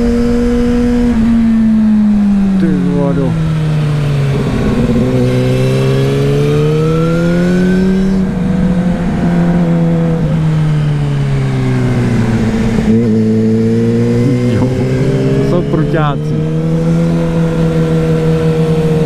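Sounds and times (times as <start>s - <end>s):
motorcycle engine: 0.0s - 19.0s
wind rushing over microphone: 0.0s - 19.0s.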